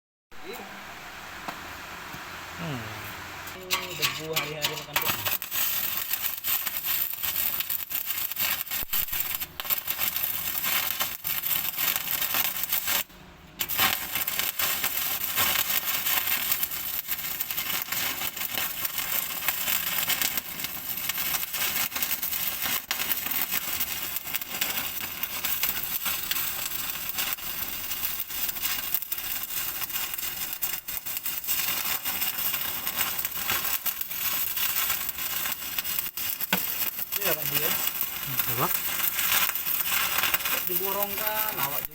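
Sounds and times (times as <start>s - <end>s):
arc welding crackle: 0.3s - 41.9s.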